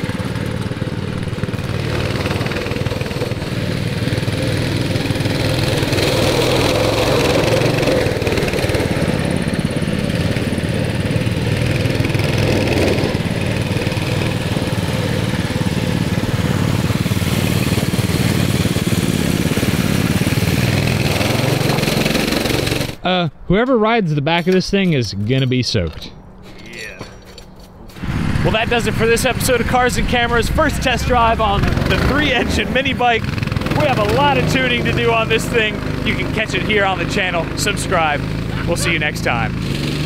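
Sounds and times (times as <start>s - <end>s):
small engines revving: 0.0s - 23.0s, 27.9s - 40.0s.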